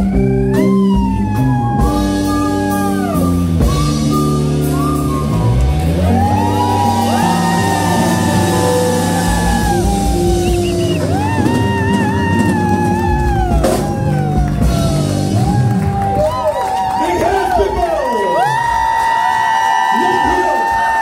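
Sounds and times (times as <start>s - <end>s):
electric guitar: 0.0s - 16.8s
bass guitar: 0.0s - 17.0s
drums: 0.0s - 21.0s.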